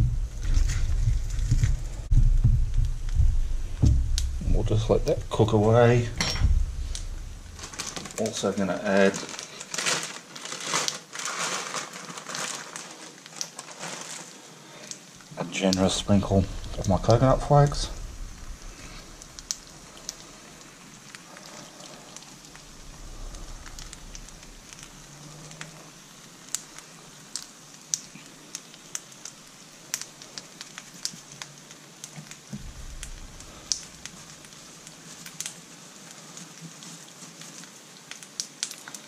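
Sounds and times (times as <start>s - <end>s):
food sizzling in frying pan: 5.8s - 39.0s.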